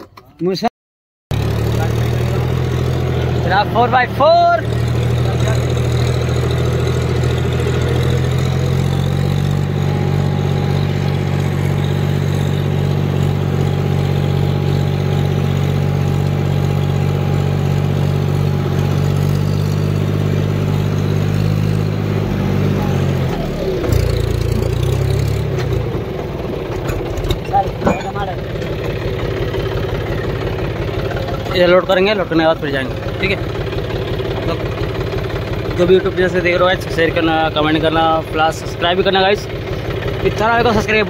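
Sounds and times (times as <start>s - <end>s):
diesel tractor engine running: 1.3s - 41.0s.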